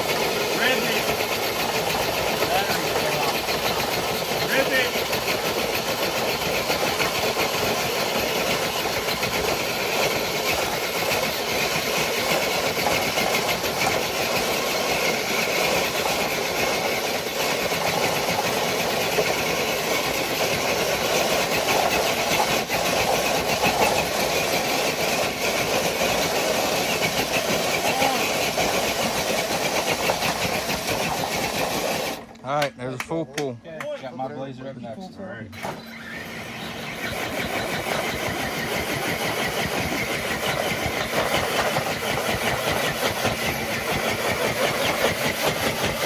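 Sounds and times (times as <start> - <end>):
toy truck motor whining: 0.0 - 32.4, 35.5 - 46.0.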